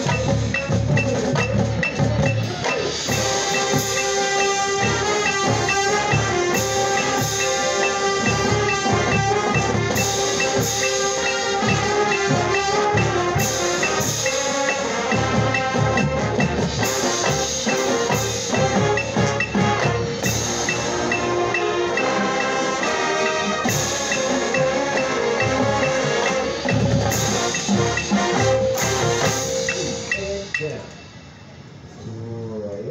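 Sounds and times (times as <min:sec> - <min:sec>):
brass and wind instruments: 0:00.0 - 0:30.8
drumline strikes: 0:00.0 - 0:31.6
marimbas: 0:00.0 - 0:31.6.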